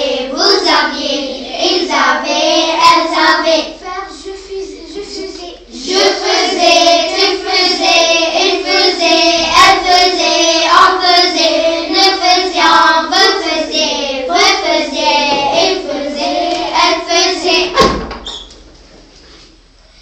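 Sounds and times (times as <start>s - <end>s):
children chanting in sing-song: 0.0s - 18.0s.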